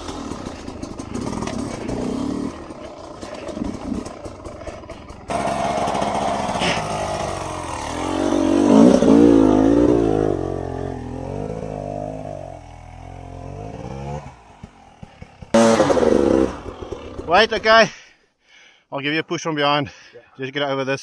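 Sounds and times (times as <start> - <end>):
dirt bike engines revving: 0.0 - 18.1.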